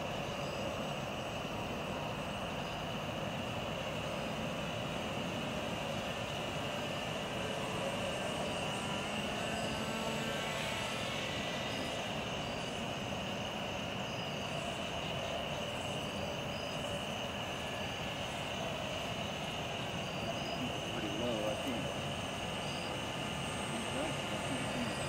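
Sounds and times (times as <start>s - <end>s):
model airplane motor droning: 0.0s - 25.0s.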